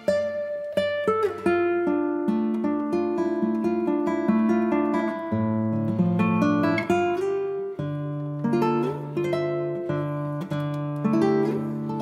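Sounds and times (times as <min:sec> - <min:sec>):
acoustic guitar picking: 0:00.0 - 0:12.0.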